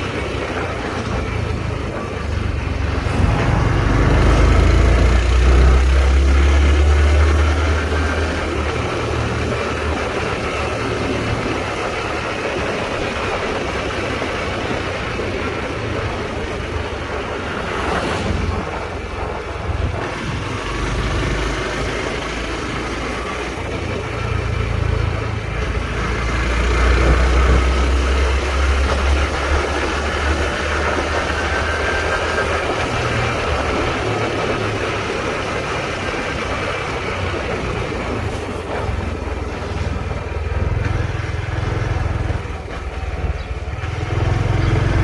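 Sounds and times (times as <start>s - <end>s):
motorcycle engine running: 0.0s - 45.0s
wind rush on microphone: 0.0s - 45.0s.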